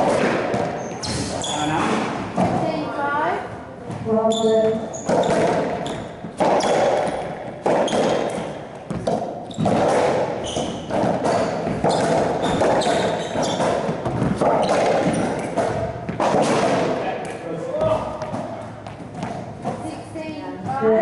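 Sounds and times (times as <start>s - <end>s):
racquetball hits echoing: 0.0s - 3.0s, 3.8s - 20.0s.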